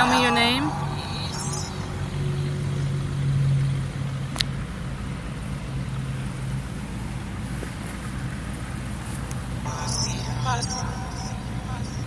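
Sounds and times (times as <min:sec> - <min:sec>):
highway traffic drone: 0:00.0 - 0:12.0
low hum: 0:00.0 - 0:12.0.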